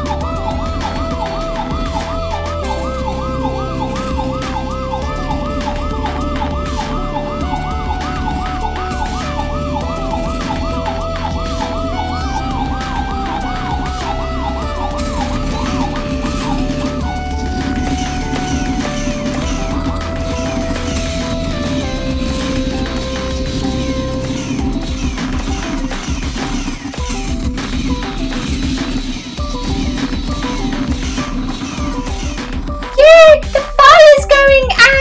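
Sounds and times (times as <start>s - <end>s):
toy siren wailing: 0.0s - 32.4s, 33.0s - 35.0s.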